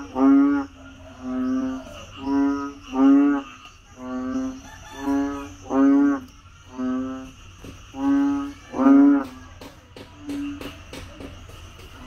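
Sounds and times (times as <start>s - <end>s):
frog calling: 0.0s - 11.0s.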